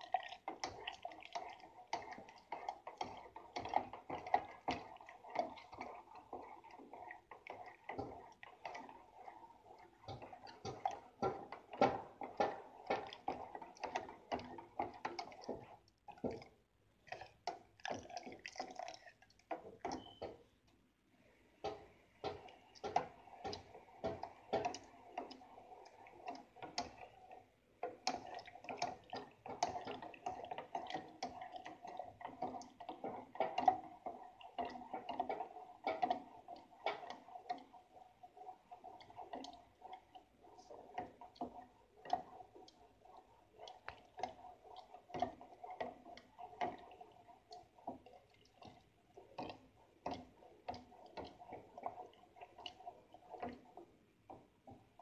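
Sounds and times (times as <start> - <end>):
utensil scraping a saucepan: 0.0 - 20.5, 21.6 - 54.4.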